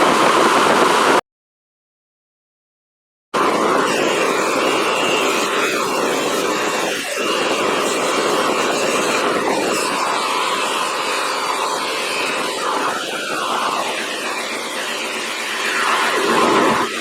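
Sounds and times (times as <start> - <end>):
shop vacuum running: 3.4 - 17.0.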